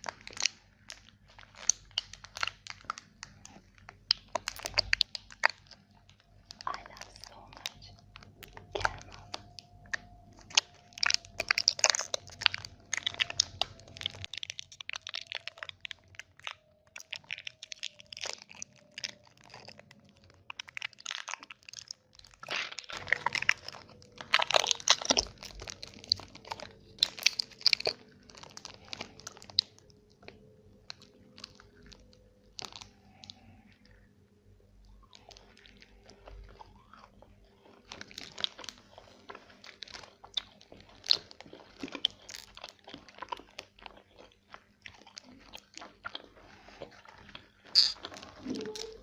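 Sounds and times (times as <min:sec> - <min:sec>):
chocolate crunching bites: 0:00.0 - 0:34.0, 0:34.9 - 0:49.0.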